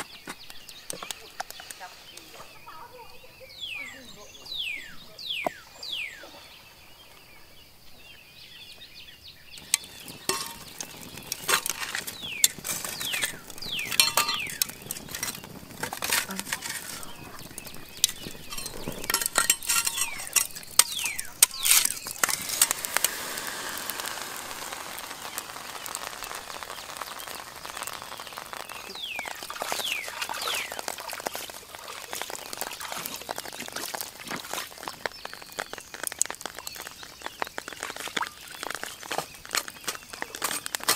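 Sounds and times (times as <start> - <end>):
steady hiss: 0.0 - 40.9
wood fire crackling: 0.0 - 40.9.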